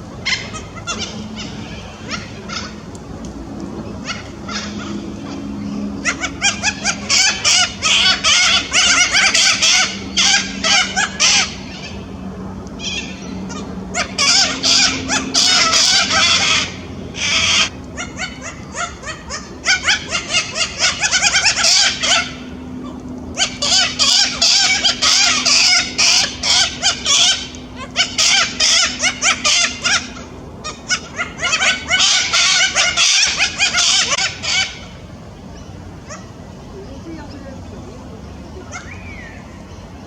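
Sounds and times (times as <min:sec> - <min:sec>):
cockatoos squawking: 0:00.1 - 0:37.4, 0:38.2 - 0:39.8.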